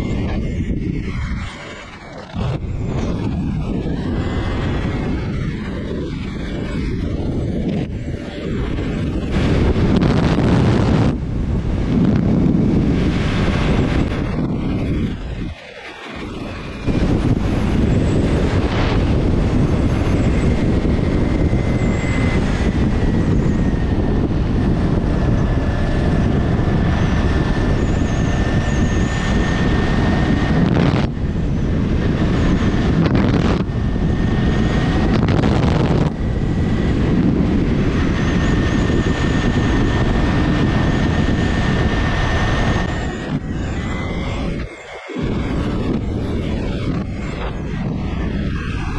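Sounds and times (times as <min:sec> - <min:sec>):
motorcycle engine running: 0:00.0 - 0:15.5, 0:16.2 - 0:48.9
faint high whine: 0:00.0 - 0:48.9
wind and road noise: 0:00.0 - 0:48.9.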